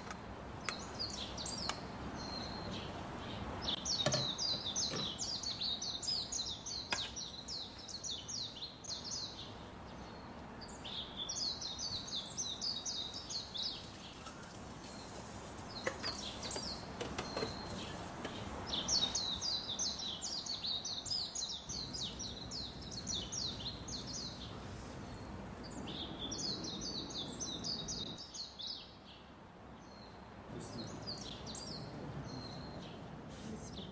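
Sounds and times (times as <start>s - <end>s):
small birds chirping: 0.0s - 33.9s
steady background noise: 0.0s - 33.9s.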